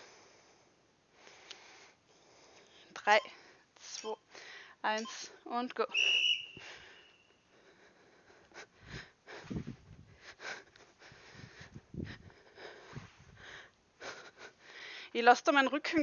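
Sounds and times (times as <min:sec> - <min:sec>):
woman breathing hard: 0:00.0 - 0:03.7, 0:04.3 - 0:04.8, 0:06.6 - 0:15.2.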